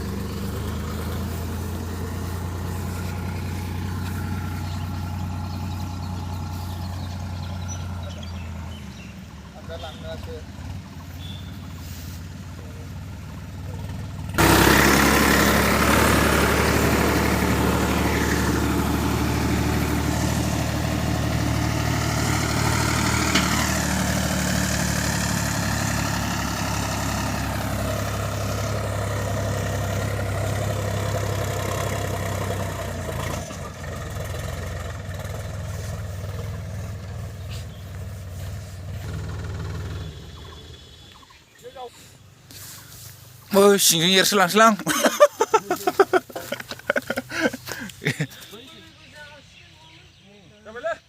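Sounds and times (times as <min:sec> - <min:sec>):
engine whine: 0:00.0 - 0:41.4
tractor diesel engine running: 0:00.0 - 0:50.0.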